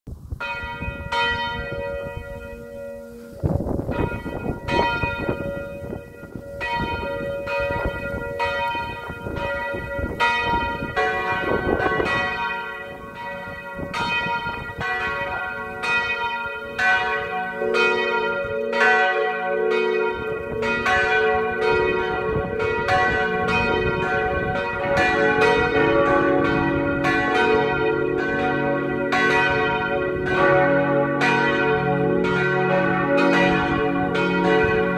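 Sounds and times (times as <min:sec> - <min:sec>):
church bells ringing: 0:00.4 - 0:34.9
deep bell ringing: 0:00.4 - 0:34.9.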